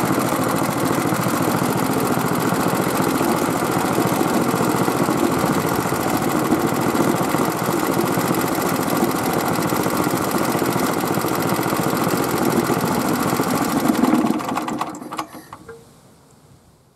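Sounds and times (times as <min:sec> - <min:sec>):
small petrol engine running: 0:00.0 - 0:15.6.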